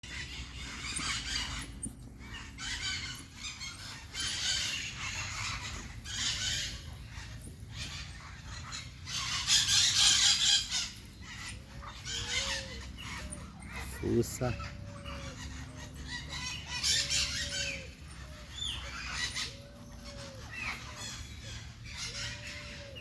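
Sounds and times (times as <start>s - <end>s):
chickens squawking: 0.0s - 23.0s.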